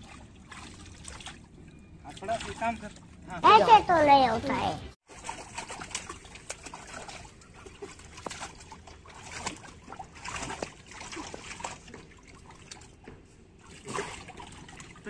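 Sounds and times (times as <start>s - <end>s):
water splashing in a pool: 0.0s - 3.7s, 5.0s - 15.0s.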